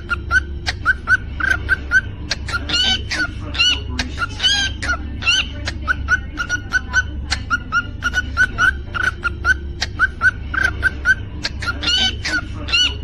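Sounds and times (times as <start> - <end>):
cockatiel chirping: 0.0 - 13.0
cockatiel whistling: 0.0 - 13.0
steady low hum: 0.0 - 13.0.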